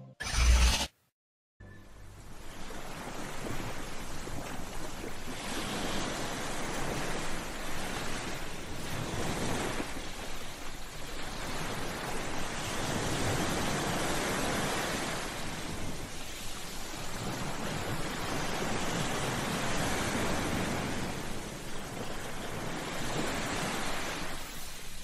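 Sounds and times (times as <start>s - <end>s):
waves breaking on shore: 2.2s - 25.0s.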